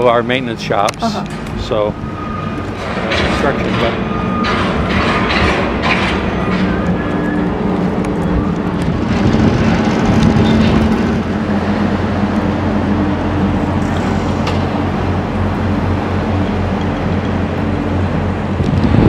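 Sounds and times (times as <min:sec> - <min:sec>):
engine running: 0:00.0 - 0:19.0
rushing noise: 0:01.3 - 0:19.0.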